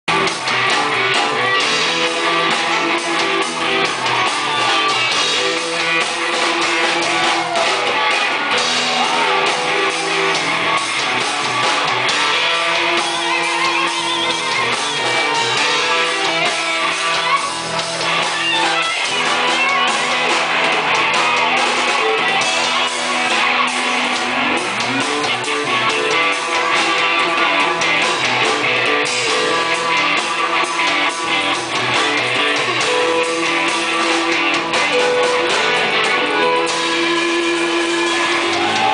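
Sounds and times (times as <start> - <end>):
electric guitars: 0.0 - 38.9
rock band playing: 0.0 - 38.9.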